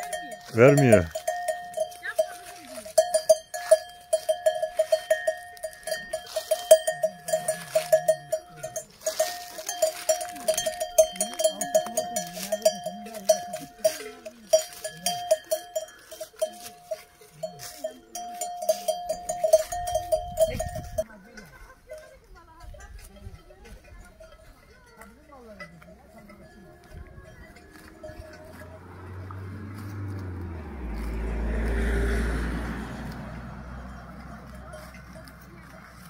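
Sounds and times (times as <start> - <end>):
cow bell clanking: 0.0 - 36.0.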